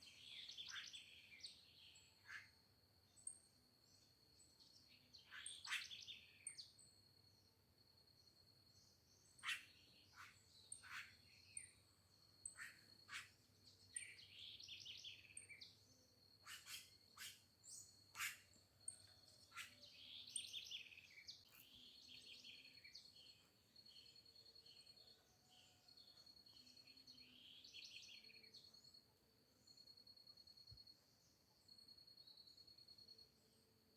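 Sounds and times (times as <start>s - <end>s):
faint birdsong: 0.0s - 33.9s.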